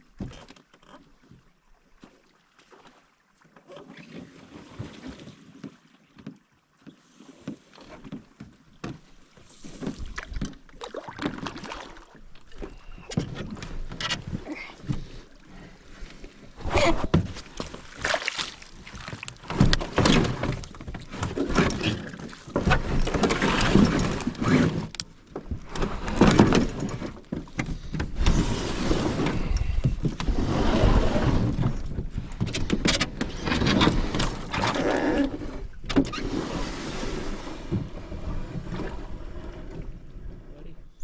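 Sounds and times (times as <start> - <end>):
paddle strokes splashing water: 0.0 - 40.4.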